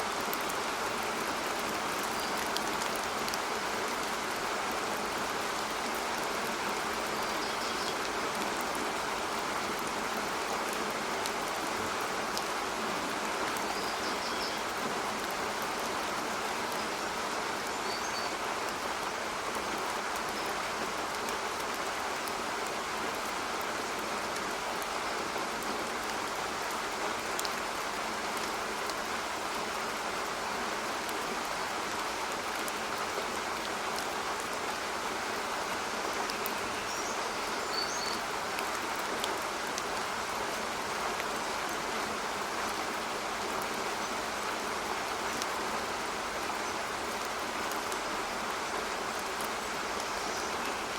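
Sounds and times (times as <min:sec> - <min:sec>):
steady rain hissing: 0:00.0 - 0:50.9.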